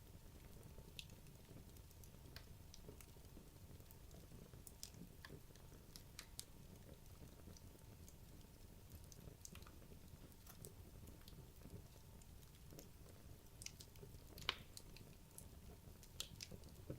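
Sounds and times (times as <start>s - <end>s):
fire crackling and popping: 0.0s - 16.9s.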